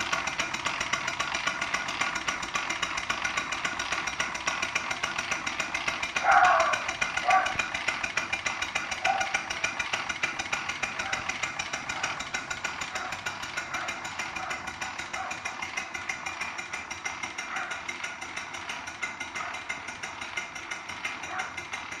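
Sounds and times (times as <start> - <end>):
steam engine exhaust chuffing: 0.0 - 22.0.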